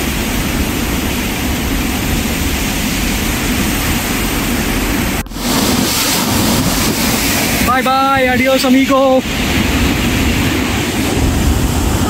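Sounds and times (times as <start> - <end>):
water rushing through spillway: 0.0 - 12.0.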